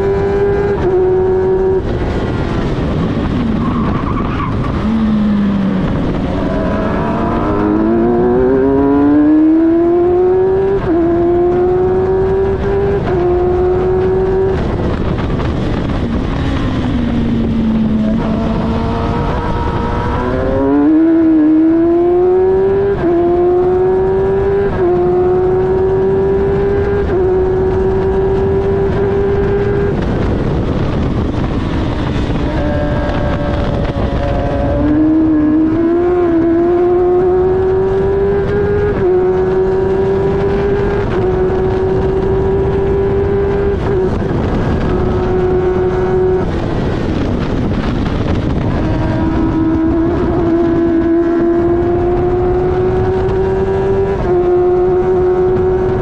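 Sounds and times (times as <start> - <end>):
racing car engine revving: 0.0 - 56.0
wind and tyre noise: 0.0 - 56.0.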